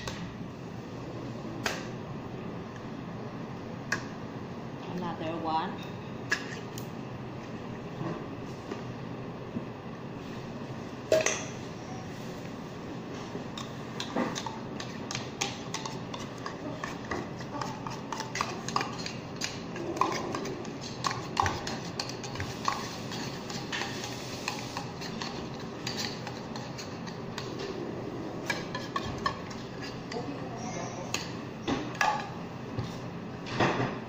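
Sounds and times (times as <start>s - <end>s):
steady background noise: 0.0s - 34.0s.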